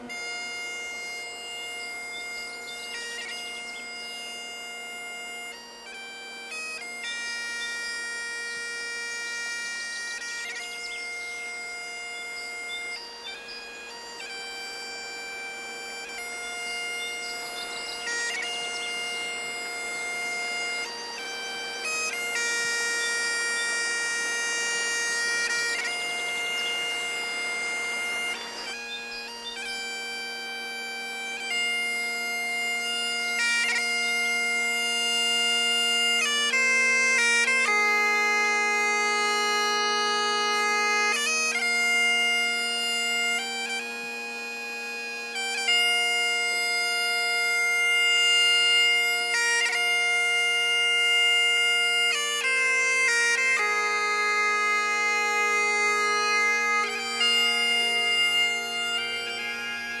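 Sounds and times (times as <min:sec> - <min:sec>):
bagpipe melody: 0:00.0 - 1:00.0.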